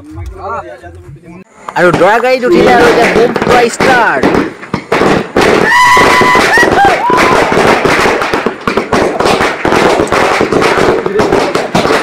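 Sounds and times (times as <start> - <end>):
firecrackers banging and crackling: 1.7 - 12.0.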